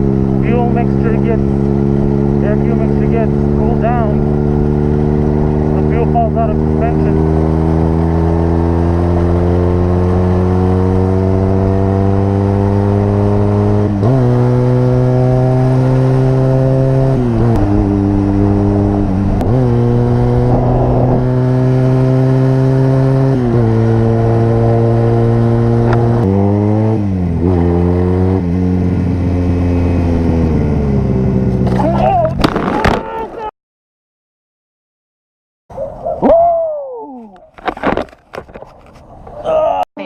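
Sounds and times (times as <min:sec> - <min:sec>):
motorcycle engine shifting gears: 0:00.0 - 0:33.0.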